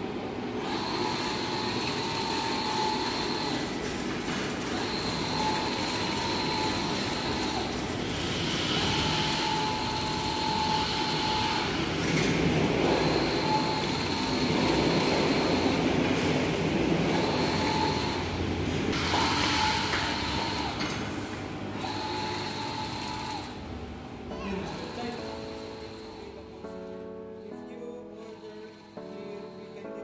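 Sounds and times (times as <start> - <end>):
machine fans whirring: 0.0 - 30.0
printer carriage motor whining: 0.4 - 26.9.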